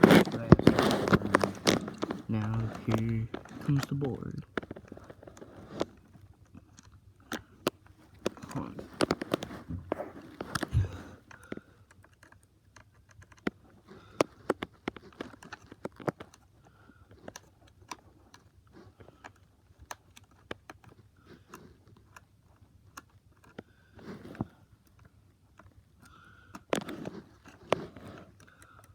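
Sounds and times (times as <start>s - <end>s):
plastic toy parts clicking: 0.0s - 9.6s, 10.2s - 23.7s, 24.3s - 28.9s.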